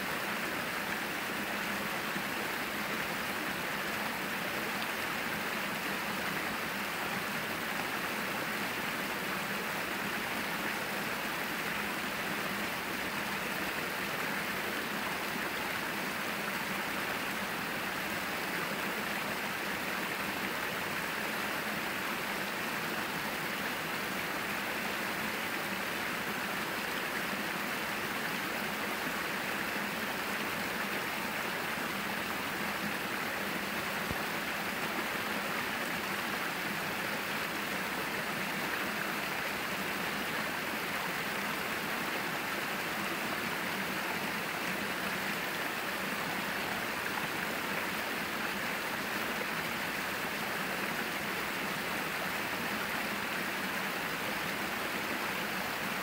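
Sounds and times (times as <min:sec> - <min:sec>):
stream splashing and gurgling: 0:00.0 - 0:56.0.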